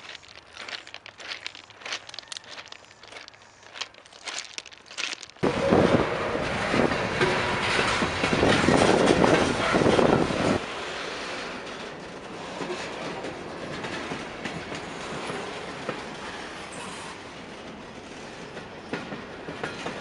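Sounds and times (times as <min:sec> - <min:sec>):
train wheels rolling over rails: 0:00.0 - 0:20.0.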